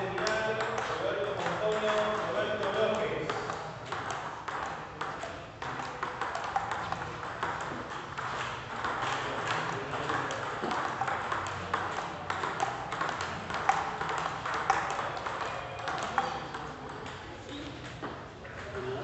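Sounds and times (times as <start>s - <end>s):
murmur of busy hall: 0.0s - 19.0s
table tennis balls clicking: 0.0s - 19.0s.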